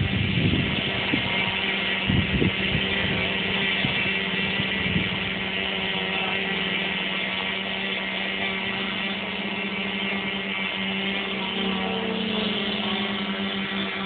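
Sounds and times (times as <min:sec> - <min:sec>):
model plane electric motor drone: 0:00.0 - 0:14.0.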